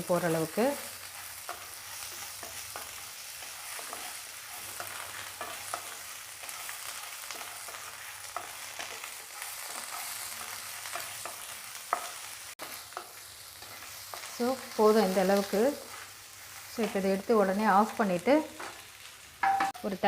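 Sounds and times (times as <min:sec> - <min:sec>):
leaves sizzling in hot oil: 0:00.0 - 0:20.0.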